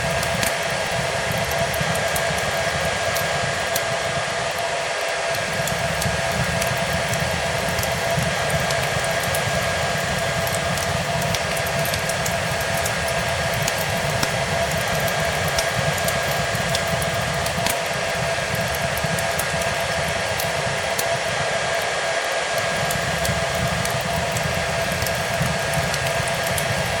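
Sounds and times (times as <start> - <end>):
fireplace fire crackling: 0.0 - 27.0
hair dryer running: 0.0 - 27.0.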